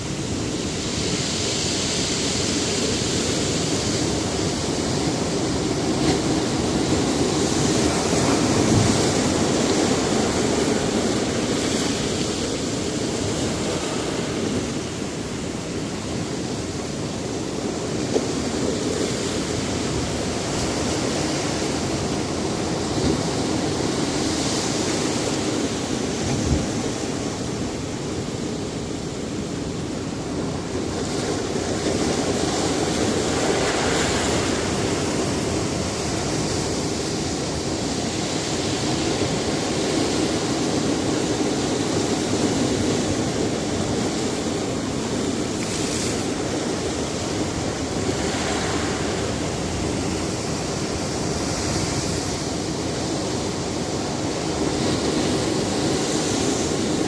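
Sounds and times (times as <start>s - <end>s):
waves breaking on rocky shore: 0.0s - 57.0s.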